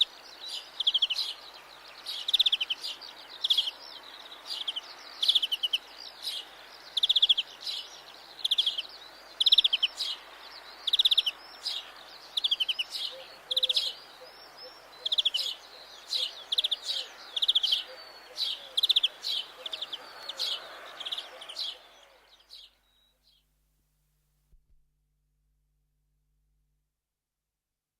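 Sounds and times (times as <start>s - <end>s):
bird singing trilled phrases: 0.0s - 23.4s
faint background hiss: 0.0s - 24.7s.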